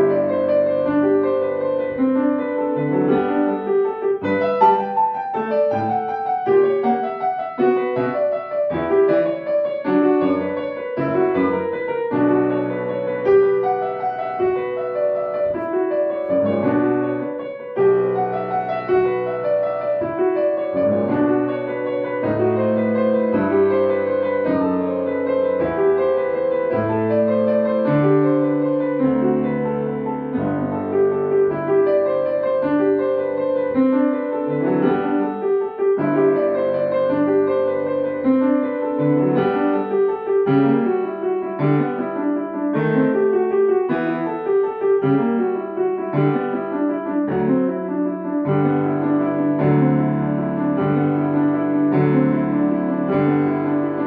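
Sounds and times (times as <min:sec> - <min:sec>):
solo piano classical piece: 0:00.0 - 0:54.0.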